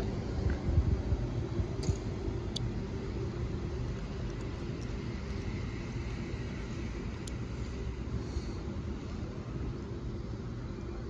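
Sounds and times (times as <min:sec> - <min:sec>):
electric train low rumble: 0:00.0 - 0:11.0
faint hum: 0:00.0 - 0:11.0.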